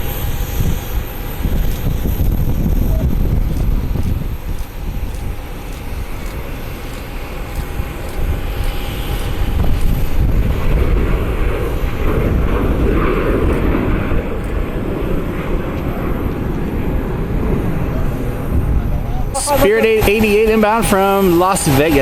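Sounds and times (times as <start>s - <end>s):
jet engines at takeoff: 0.0s - 22.0s.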